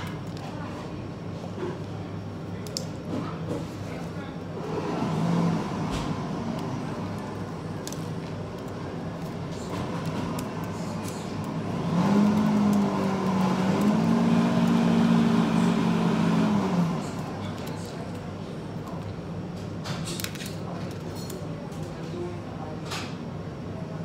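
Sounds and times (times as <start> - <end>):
low machine hum: 0.0 - 19.9
cafe background hubbub: 0.0 - 24.0.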